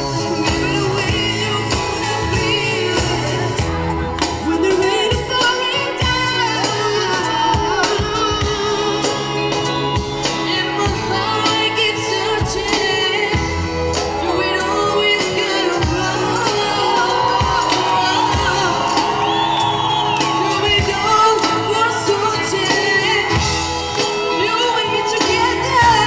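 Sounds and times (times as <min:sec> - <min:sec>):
electric bass guitar: 0:00.0 - 0:24.4
drums: 0:00.0 - 0:26.0
woman singing: 0:00.0 - 0:26.0.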